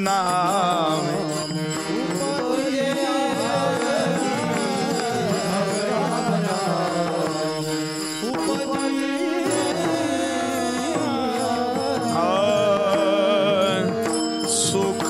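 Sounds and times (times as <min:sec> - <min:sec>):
chorus singing devotional song: 0:00.0 - 0:15.0
hand drum: 0:00.6 - 0:07.5, 0:08.2 - 0:15.0.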